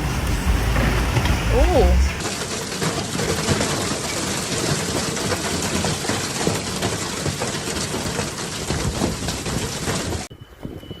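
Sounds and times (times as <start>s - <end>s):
heavy rain pattering: 0.0s - 10.3s.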